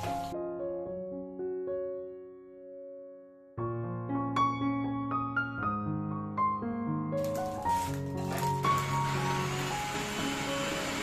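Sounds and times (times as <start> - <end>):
soft solo piano: 0.0 - 11.0.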